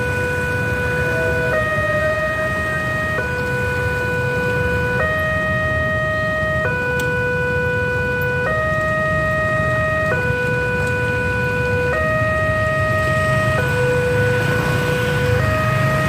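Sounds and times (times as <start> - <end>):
level crossing two-tone alarm: 0.0 - 16.0.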